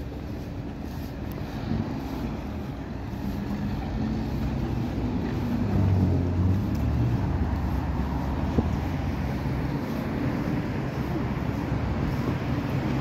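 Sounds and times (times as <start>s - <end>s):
passing cars rumbling: 0.0s - 13.0s.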